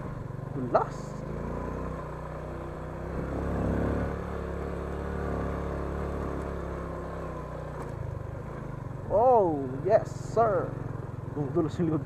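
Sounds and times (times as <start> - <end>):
motorcycle engine under load: 0.0 - 12.0.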